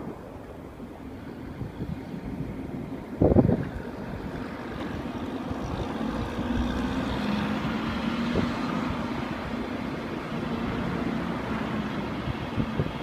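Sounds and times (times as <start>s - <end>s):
traffic engine and tyre noise: 0.0s - 13.0s
vehicle low engine hum: 0.0s - 13.0s
wind rumble on microphone: 0.0s - 13.0s.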